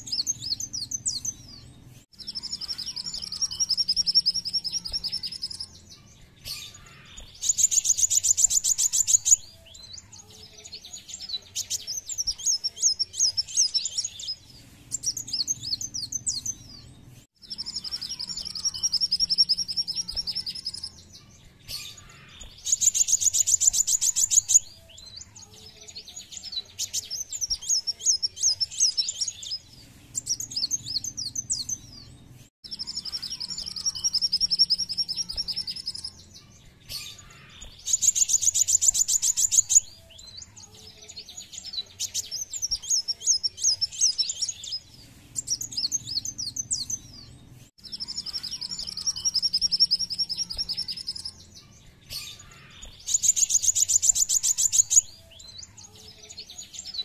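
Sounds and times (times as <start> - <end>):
sunbird trills and chirps: 0.0 - 57.0.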